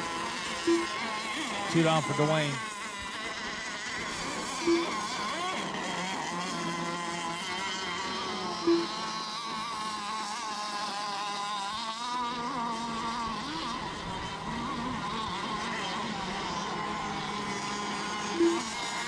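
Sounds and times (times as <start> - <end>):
racing boat motors whining: 0.0 - 19.0.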